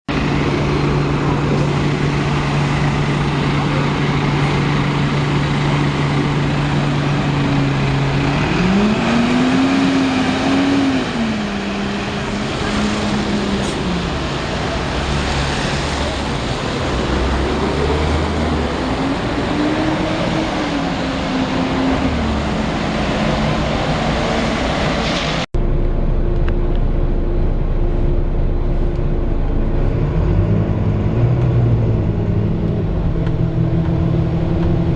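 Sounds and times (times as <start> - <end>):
bus diesel engine revving: 0.1 - 34.9.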